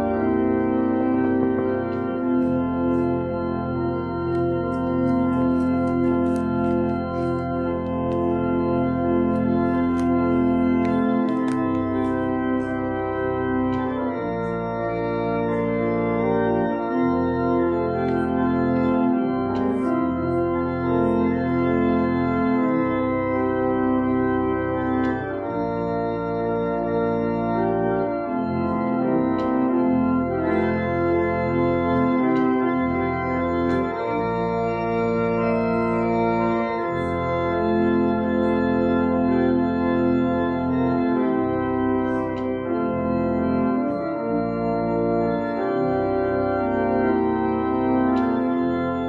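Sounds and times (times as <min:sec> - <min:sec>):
church organ chords: 0:00.0 - 0:49.0.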